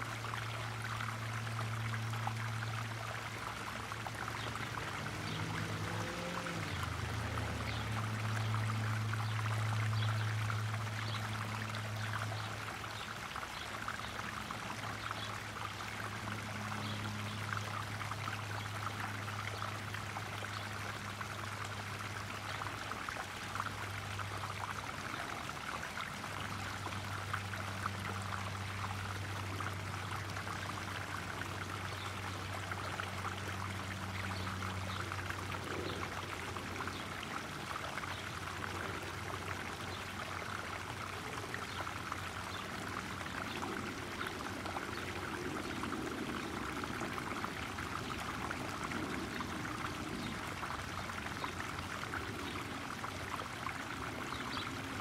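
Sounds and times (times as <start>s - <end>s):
low steady hum: 0.0s - 55.0s
pond waterfall splashing: 0.0s - 55.0s.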